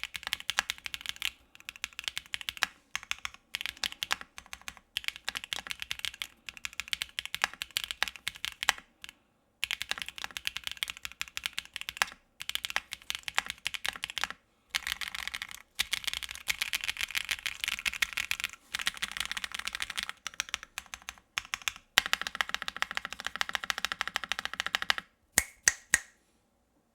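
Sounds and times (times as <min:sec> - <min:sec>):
mechanical keyboard typing: 0:00.0 - 0:25.1.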